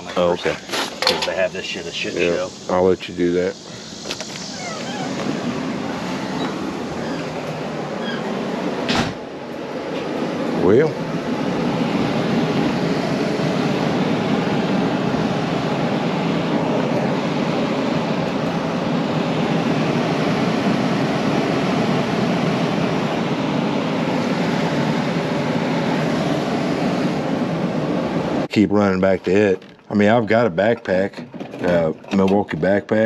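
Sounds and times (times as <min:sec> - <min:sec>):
vacuum cleaner running: 0:00.0 - 0:28.5.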